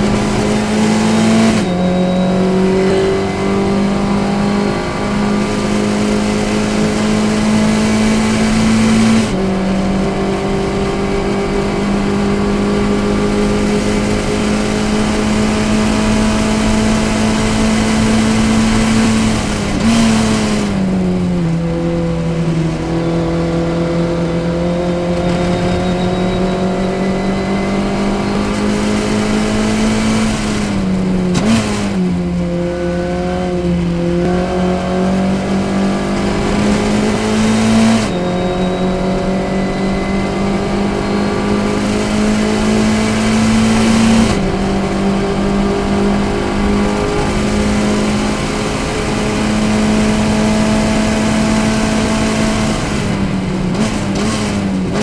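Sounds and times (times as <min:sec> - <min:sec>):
race car engine at high revs: 0:00.0 - 0:55.0.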